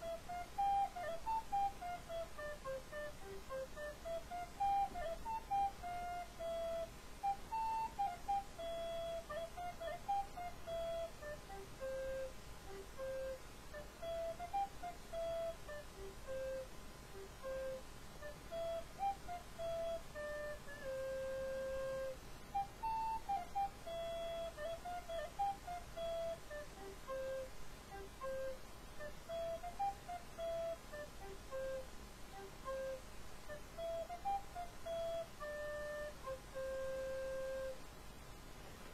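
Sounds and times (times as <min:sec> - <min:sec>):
wooden flute melody: 0:00.0 - 0:37.8.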